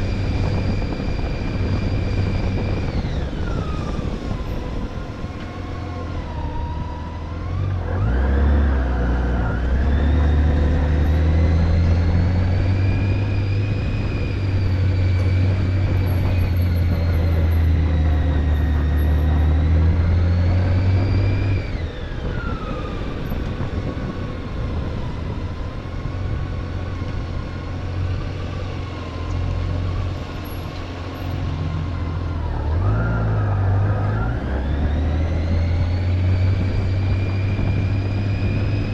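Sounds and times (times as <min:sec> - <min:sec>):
motorcycle engine: 0:07.2 - 0:38.9.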